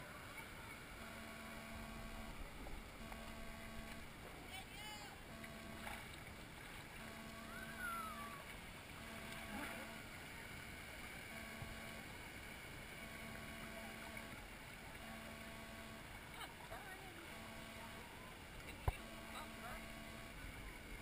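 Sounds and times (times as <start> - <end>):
faint tones: 0.0 - 21.0
water flowing and lapping: 0.0 - 21.0.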